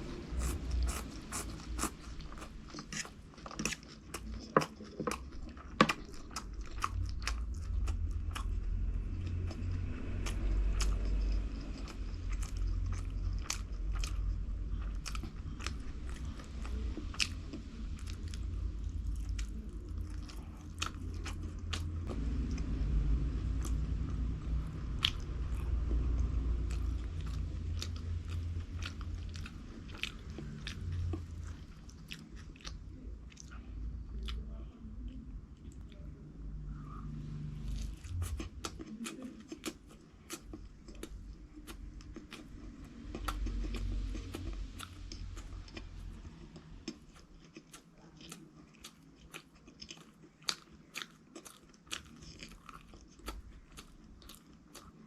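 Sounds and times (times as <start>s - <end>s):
person chewing crunchy food: 0.0s - 55.0s
steady low rumble: 0.0s - 55.0s.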